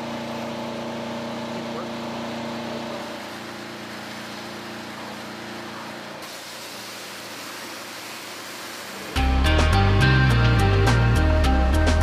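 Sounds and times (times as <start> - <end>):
water hose spraying: 0.1 - 9.8.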